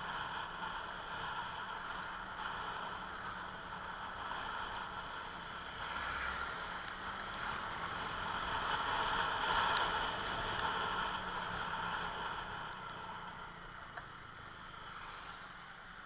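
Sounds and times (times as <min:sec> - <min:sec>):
motor scooter running: 0:00.0 - 0:16.0
road and wind noise: 0:00.0 - 0:16.0.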